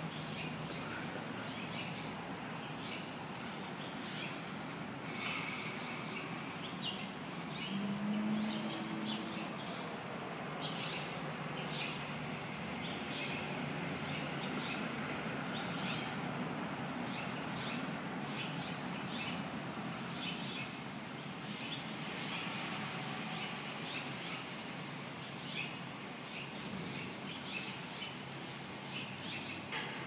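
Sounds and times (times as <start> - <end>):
small songbirds chirping: 0.0 - 12.2, 17.1 - 28.2, 28.8 - 29.7.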